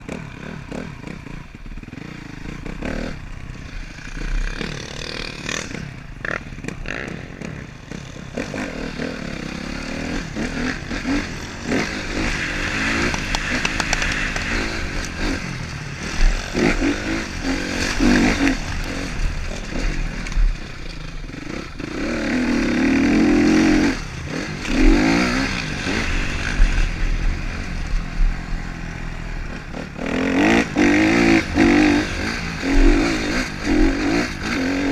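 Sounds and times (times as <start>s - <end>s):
motocross bike engines revving: 0.0s - 34.9s.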